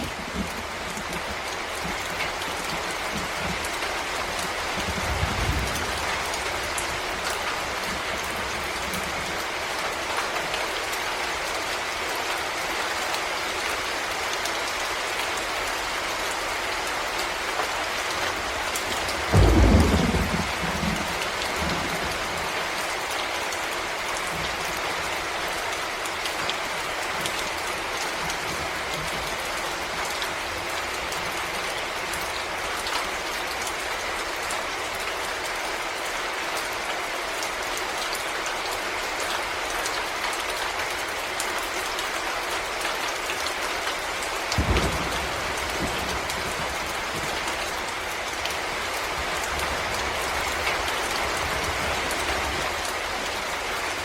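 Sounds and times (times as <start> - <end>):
rain falling in forest: 0.0 - 54.0.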